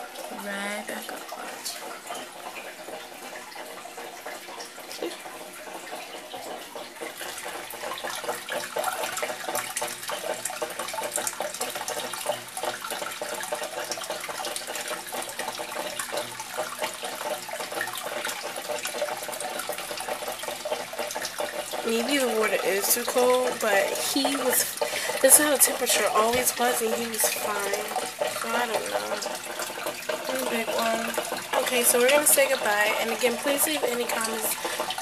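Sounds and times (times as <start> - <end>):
water trickling and splashing: 0.0 - 35.0.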